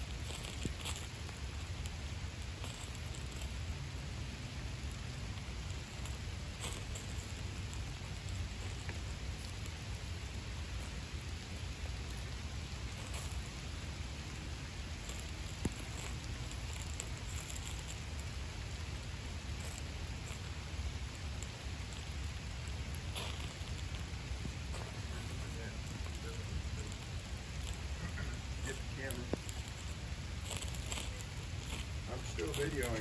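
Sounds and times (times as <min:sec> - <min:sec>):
rain pattering on wet surfaces: 0:00.0 - 0:33.0
low rumble: 0:03.6 - 0:33.0.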